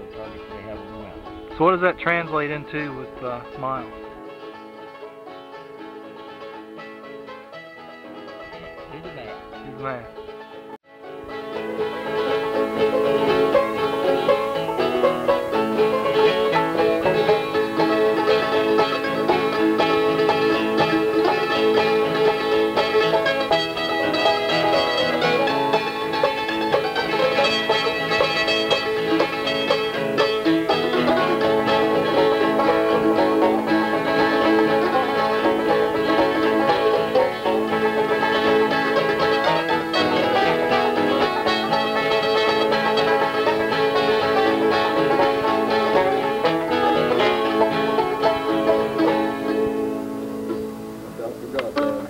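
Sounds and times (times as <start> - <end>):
banjo bluegrass music: 0.0 - 52.0.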